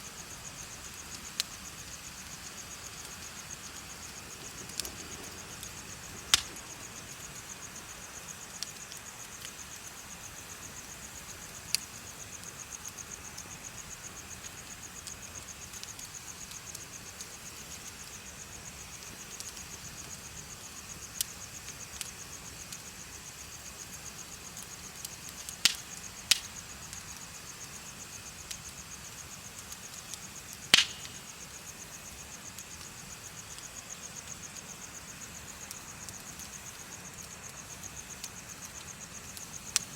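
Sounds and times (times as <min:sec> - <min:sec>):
bonfire crackling: 0:00.0 - 0:39.9
insects trilling: 0:00.0 - 0:39.9
sharp pops of fire: 0:00.5 - 0:22.9, 0:23.6 - 0:39.9.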